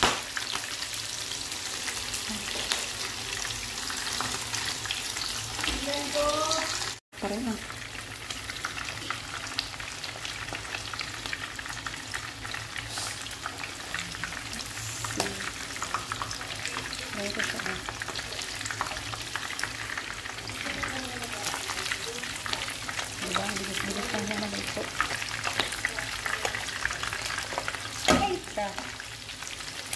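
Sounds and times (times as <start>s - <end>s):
shrimp frying in hot oil: 0.0s - 29.9s.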